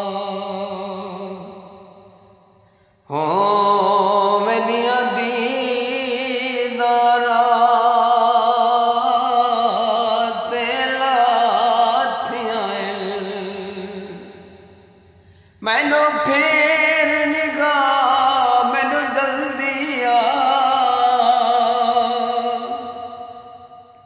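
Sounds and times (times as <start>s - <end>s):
man singing: 0.0s - 1.8s, 3.1s - 14.4s, 15.6s - 23.6s.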